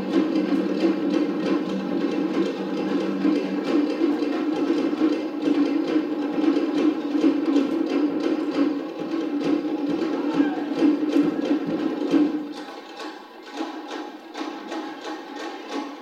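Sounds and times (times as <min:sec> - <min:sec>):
wooden slit drums beaten fast: 0:00.0 - 0:16.0.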